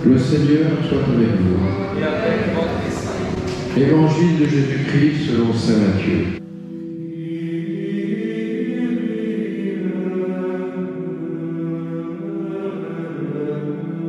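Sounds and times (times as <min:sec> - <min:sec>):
slow sung chant: 0:00.0 - 0:05.4, 0:06.3 - 0:14.0.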